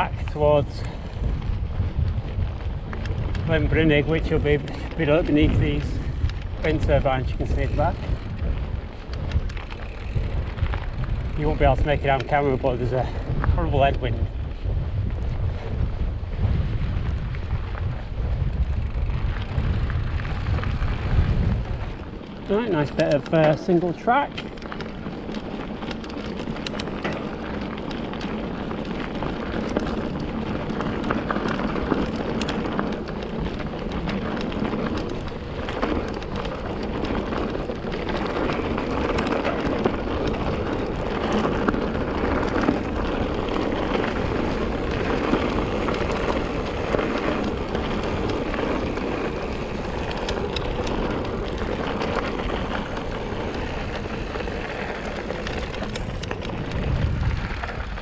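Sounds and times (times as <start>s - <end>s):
bike rattling and clicking: 0.0s - 58.0s
bike tyres on loose gravel: 0.0s - 58.0s.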